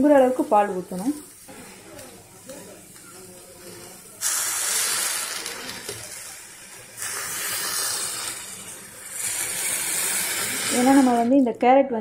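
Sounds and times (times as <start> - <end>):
milk sizzling in hot fat: 0.0 - 11.6.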